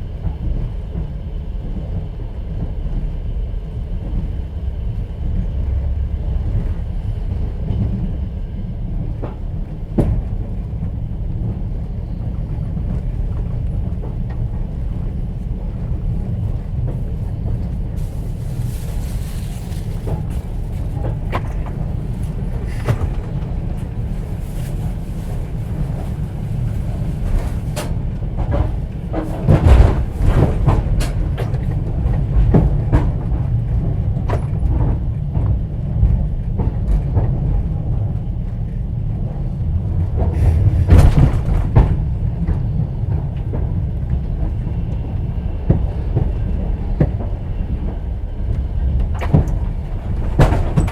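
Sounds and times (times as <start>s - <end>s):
train running rumble: 0.0s - 50.9s.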